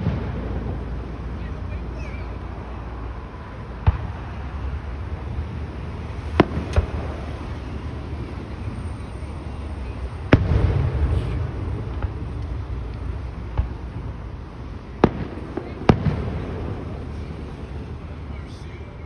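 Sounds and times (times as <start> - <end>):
fireworks bursting: 0.0 - 19.0
rolling rumble: 0.0 - 19.0.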